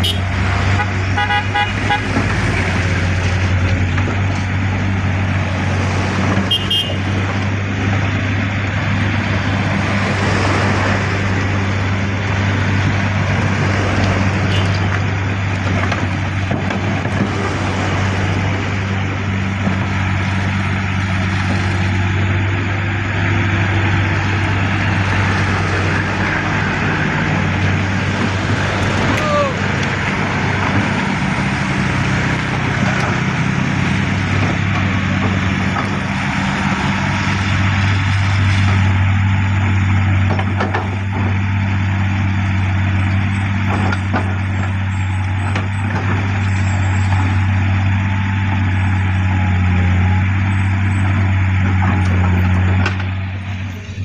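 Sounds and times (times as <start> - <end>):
heavy vehicles noise: 0.0 - 54.0
large engine humming: 0.0 - 54.0.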